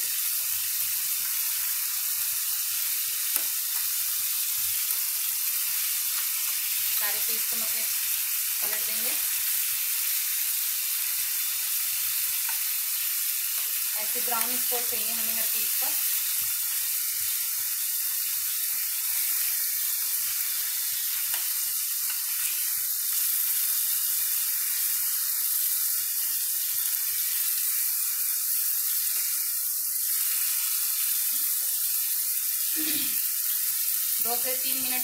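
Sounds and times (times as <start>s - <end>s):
chicken sizzling in oil: 0.0s - 35.0s.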